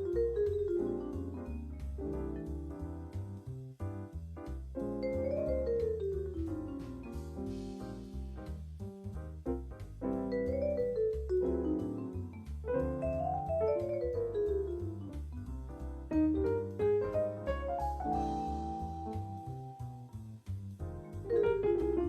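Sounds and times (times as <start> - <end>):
jazz instrumental: 0.0 - 22.0
steady bass line: 0.0 - 22.0.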